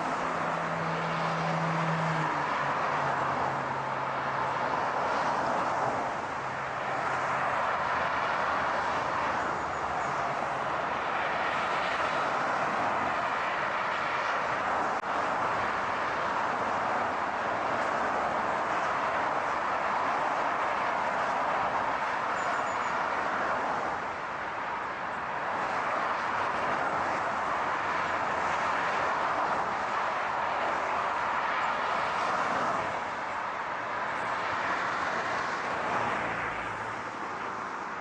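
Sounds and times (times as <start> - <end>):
road and wind noise: 0.0 - 38.0.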